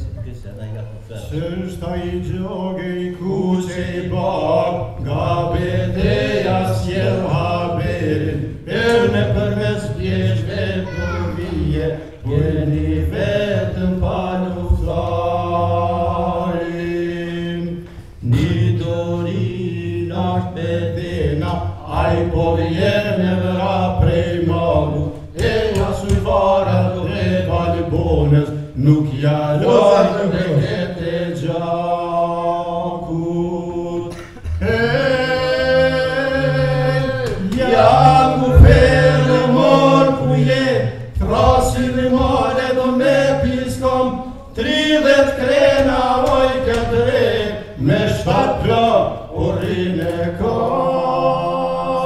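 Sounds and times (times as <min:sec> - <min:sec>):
men singing chant-like song: 0:01.2 - 0:52.0.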